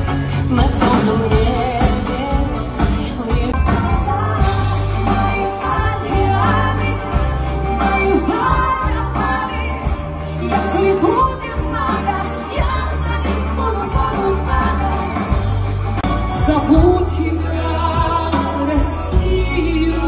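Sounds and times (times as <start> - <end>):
live pop band: 0.0 - 20.0
woman singing lead: 0.0 - 20.0.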